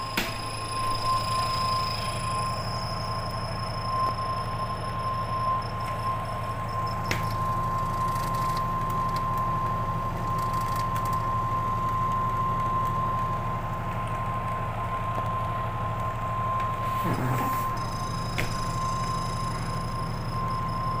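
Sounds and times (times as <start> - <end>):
high-pitched whine: 0.0 - 21.0
washing machine motor humming: 0.0 - 21.0.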